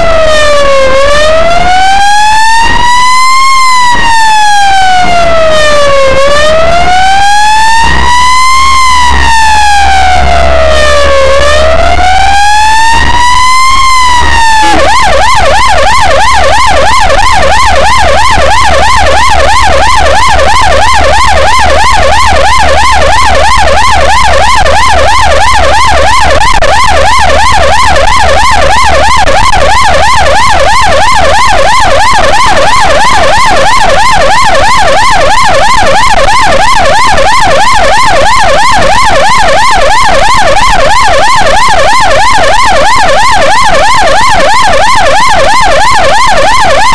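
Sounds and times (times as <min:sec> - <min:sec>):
ambulance siren wail and yelp: 0:00.0 - 0:46.9.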